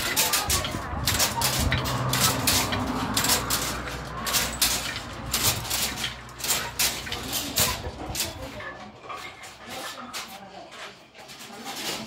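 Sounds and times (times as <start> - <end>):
wooden loom clacking: 0.0 - 12.0.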